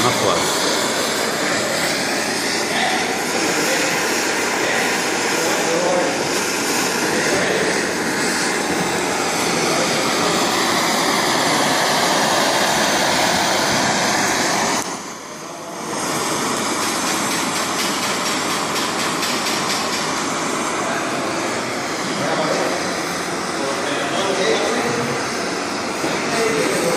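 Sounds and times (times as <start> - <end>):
blowtorch flame burning: 0.0 - 26.9.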